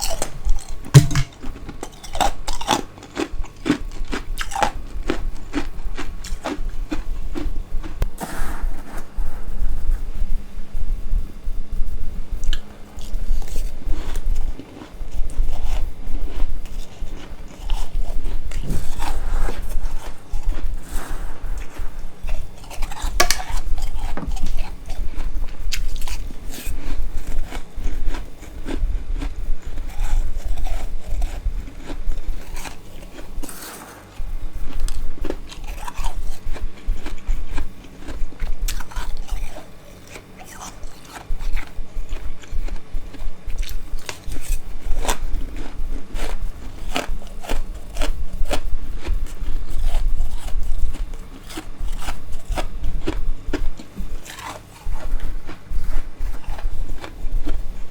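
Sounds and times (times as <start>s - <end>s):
crunching and chewing ice: 0.0s - 9.2s, 12.4s - 57.9s.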